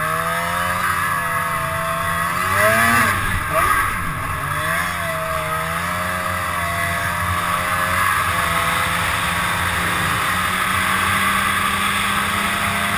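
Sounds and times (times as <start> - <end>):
snowmobile engine running: 0.0 - 12.9.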